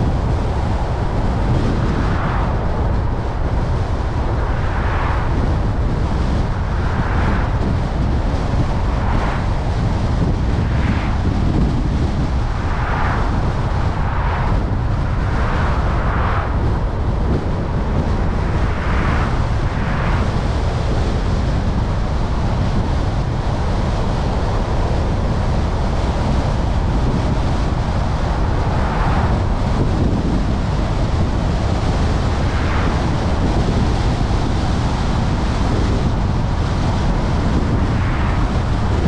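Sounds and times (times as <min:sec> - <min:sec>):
road rumble: 0:00.0 - 0:39.0
wind rush: 0:00.0 - 0:39.0.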